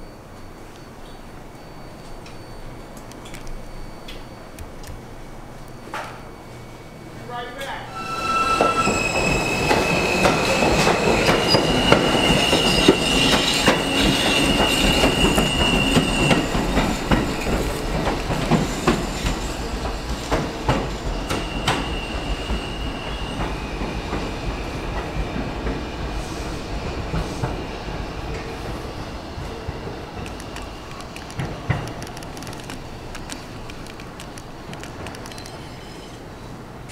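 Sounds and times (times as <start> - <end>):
train wheels squealing: 0.0 - 3.0, 7.7 - 33.6, 35.2 - 36.7
subway train moving away: 0.0 - 36.9.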